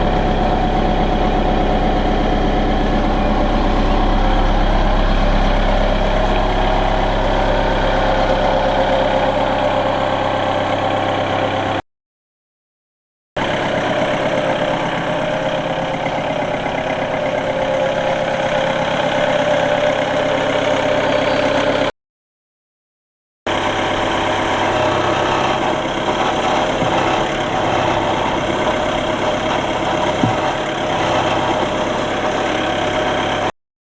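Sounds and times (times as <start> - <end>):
forklift diesel engine running: 0.0 - 11.8, 13.4 - 21.9, 23.5 - 33.5.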